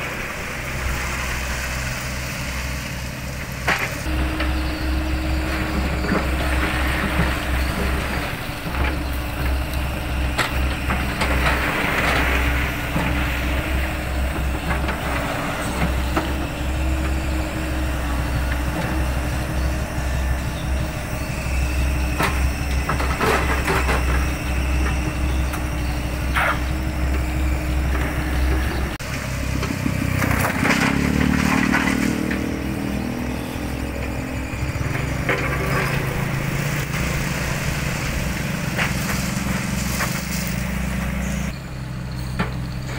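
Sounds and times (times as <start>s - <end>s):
diesel engines running: 0.0s - 42.9s
gravel rattling and scraping: 0.0s - 42.9s.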